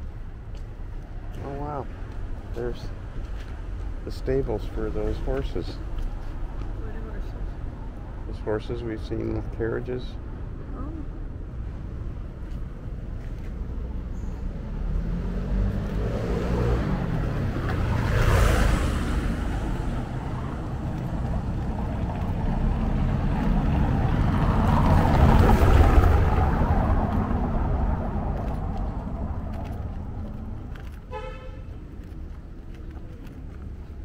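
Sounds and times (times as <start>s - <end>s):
vehicles passing on cobbles: 0.0s - 34.0s.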